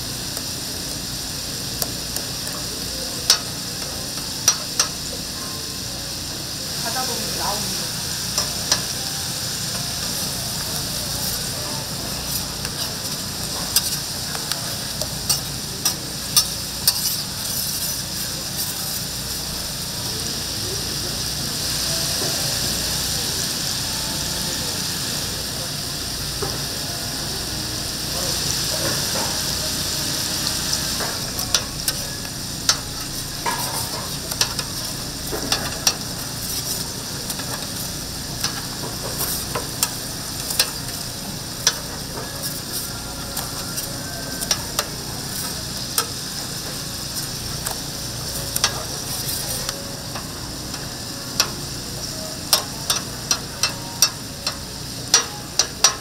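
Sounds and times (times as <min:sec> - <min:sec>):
meat patties sizzling: 0:00.0 - 0:56.0.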